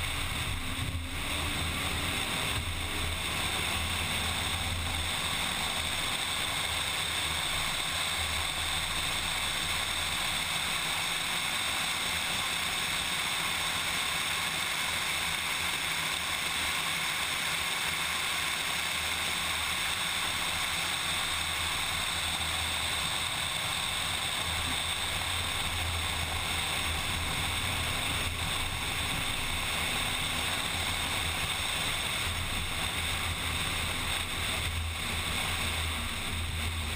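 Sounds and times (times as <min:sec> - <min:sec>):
low engine drone: 0:00.0 - 0:36.9
road noise: 0:00.0 - 0:36.9.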